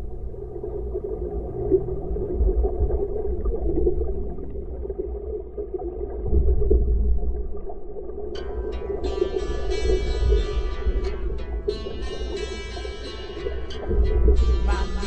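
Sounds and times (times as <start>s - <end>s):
muffled rumble of rushing water: 0.0s - 15.0s.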